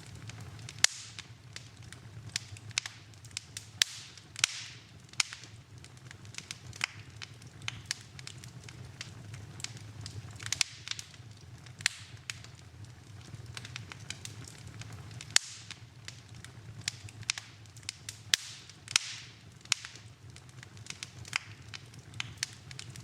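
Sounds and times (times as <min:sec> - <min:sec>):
fire hissing: 0:00.0 - 0:23.0
low fire rumble: 0:00.0 - 0:23.0
sharp fire pops: 0:00.0 - 0:23.0
wood fire crackling: 0:00.0 - 0:23.0.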